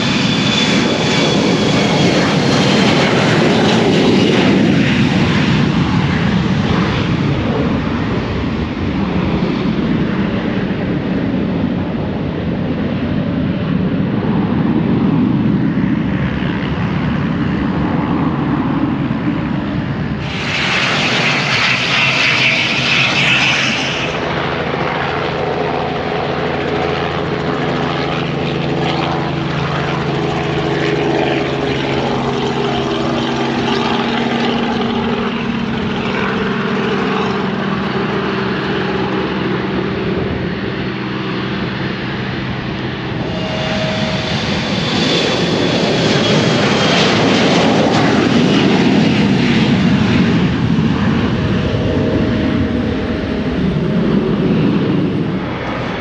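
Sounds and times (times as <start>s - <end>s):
airplane engine roar: 0.0s - 56.0s
airplane engines humming: 0.0s - 56.0s.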